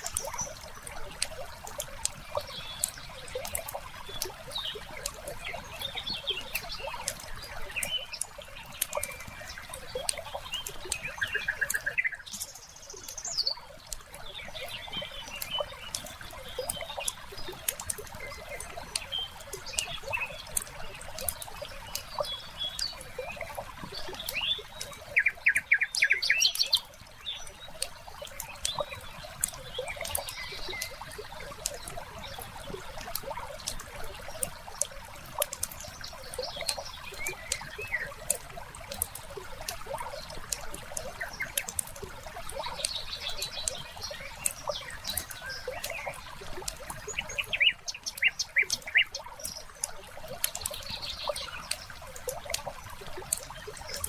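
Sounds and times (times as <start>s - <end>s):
birds chirping in trills: 2.3s - 33.0s, 35.4s - 54.0s.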